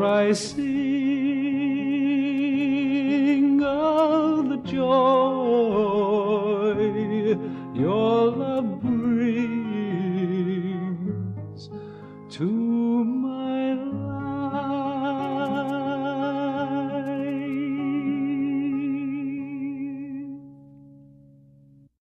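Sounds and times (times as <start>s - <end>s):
person singing a hymn: 0.0s - 20.4s.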